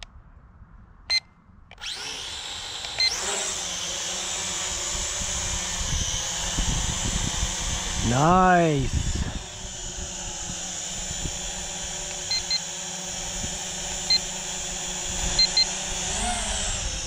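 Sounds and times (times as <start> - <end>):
drone propellers whining: 1.7 - 17.0.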